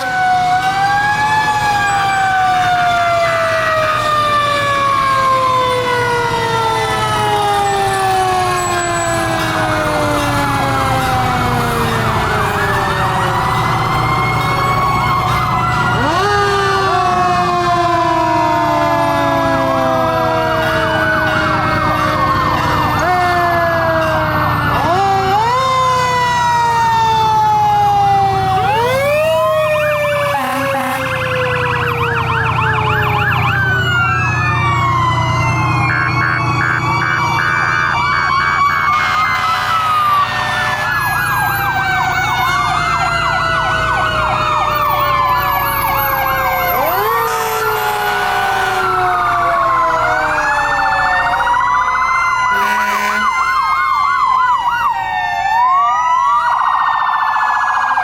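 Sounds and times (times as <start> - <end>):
electronic siren wail and yelp: 0.0 - 58.0.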